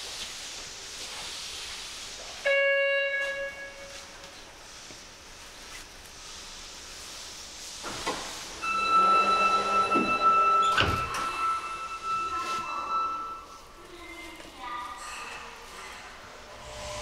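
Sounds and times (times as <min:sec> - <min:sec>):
subway car hiss: 0:00.0 - 0:13.8.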